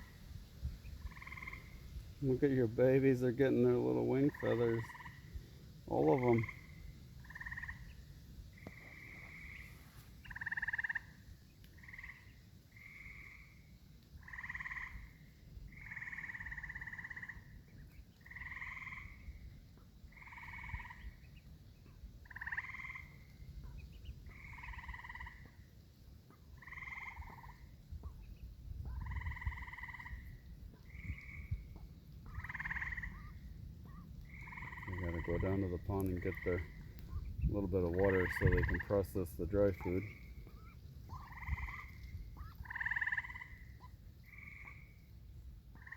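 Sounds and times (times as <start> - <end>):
frogs trilling: 0.0 - 45.9.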